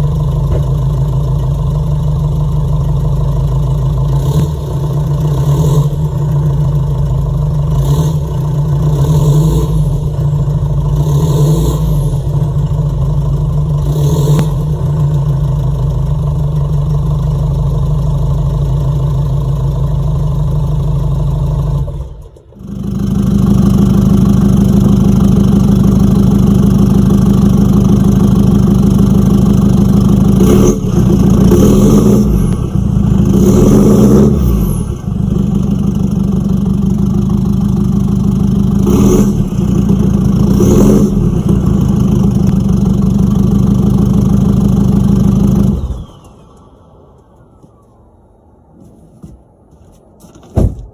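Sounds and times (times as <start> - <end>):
diesel engine revving: 0.0 - 47.5.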